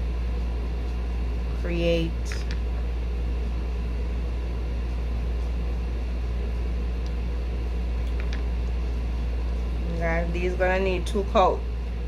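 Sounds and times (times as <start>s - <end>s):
steady low hum with hiss: 0.0s - 12.0s.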